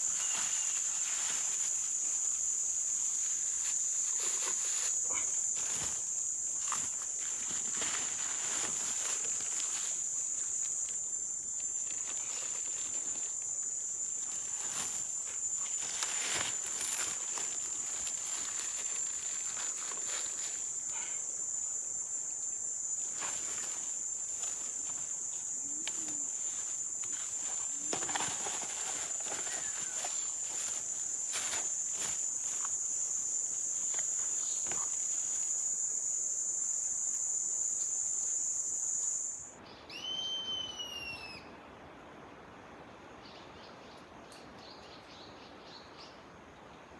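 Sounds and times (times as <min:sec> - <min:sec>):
night insects droning: 0:00.0 - 0:46.9.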